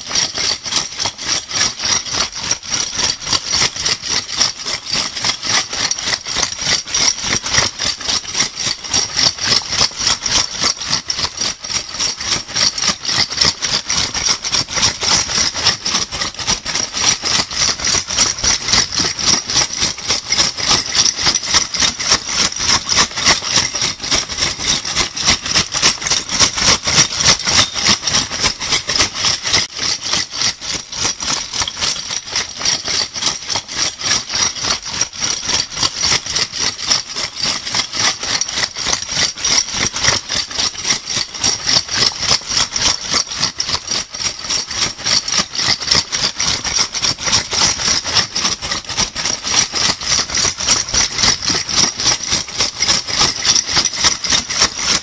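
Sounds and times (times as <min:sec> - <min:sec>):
bottle caps rattling in bag: 0:00.0 - 0:55.0.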